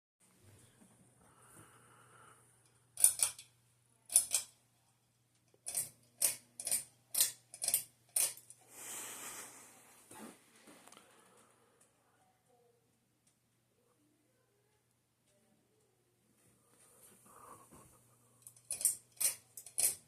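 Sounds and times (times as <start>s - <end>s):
faint low hum: 0.2s - 20.0s.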